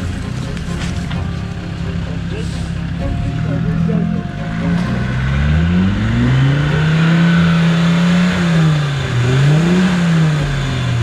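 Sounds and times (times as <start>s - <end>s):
engine revving in mud: 0.0s - 11.0s.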